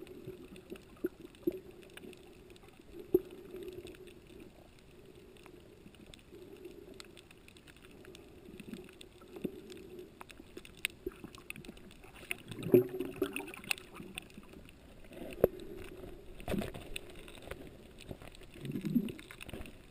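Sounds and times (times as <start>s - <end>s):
faint clicks: 0.0s - 19.9s
underwater hum: 0.0s - 19.9s.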